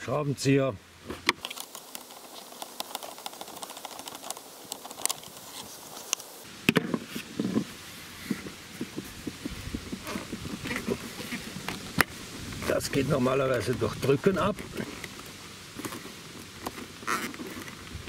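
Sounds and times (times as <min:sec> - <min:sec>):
plastic hose handling: 0:01.0 - 0:18.0.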